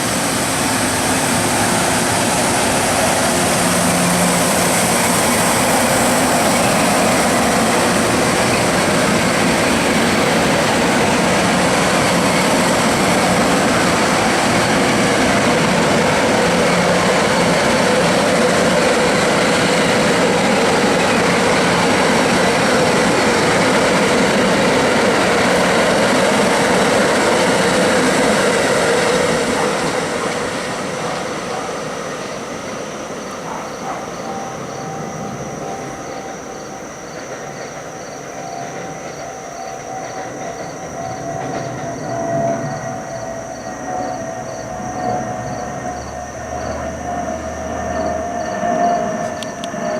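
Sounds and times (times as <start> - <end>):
train braking: 0.0 - 49.9.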